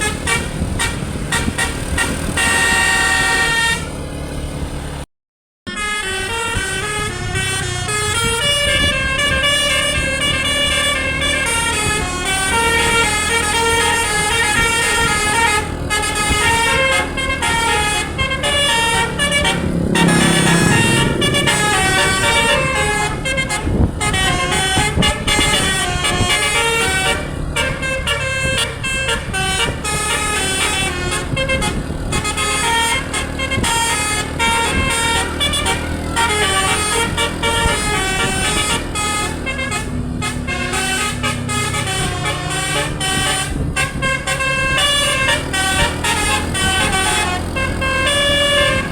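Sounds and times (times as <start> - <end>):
musical air horn melody: 0.0 - 4.0, 5.6 - 48.9
vehicle engine running: 0.0 - 5.1, 6.2 - 48.9.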